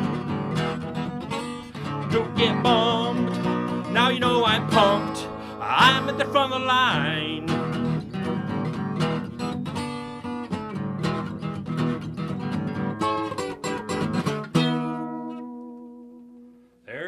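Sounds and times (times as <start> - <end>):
acoustic guitar strumming: 0.0 - 16.8.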